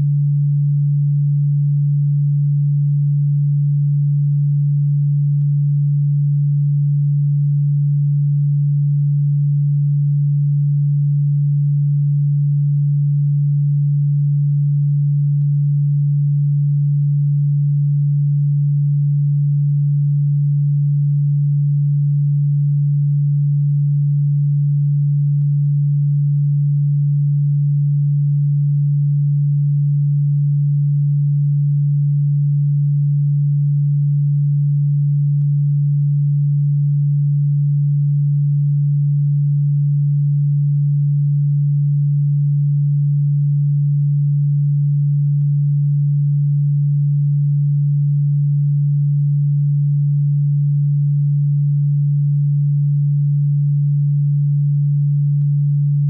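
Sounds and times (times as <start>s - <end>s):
low electronic pure tone: 0.0s - 56.0s.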